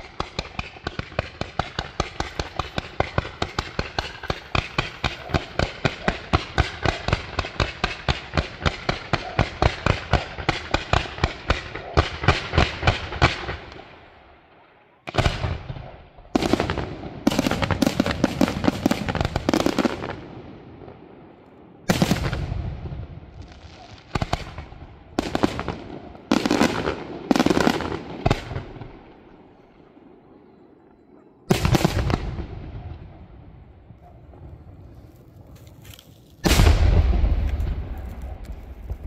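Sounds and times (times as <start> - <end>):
fireworks bursting: 0.0 - 14.0, 15.1 - 20.4, 21.9 - 29.4, 31.5 - 33.2, 34.2 - 39.0.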